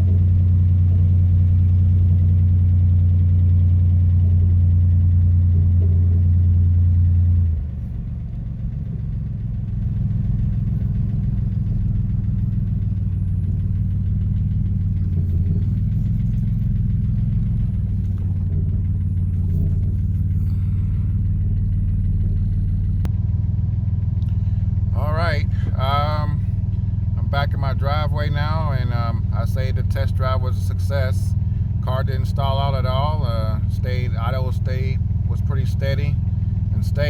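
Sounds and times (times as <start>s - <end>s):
diesel car engine droning: 0.0s - 37.0s.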